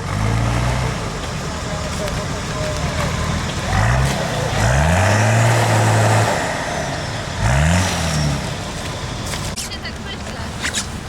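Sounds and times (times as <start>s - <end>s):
engine revving: 0.0s - 9.7s.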